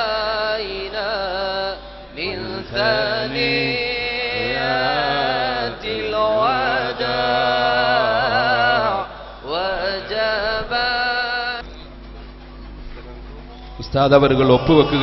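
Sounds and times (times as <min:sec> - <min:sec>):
devotional chanting: 0:00.0 - 0:12.0, 0:13.7 - 0:15.0.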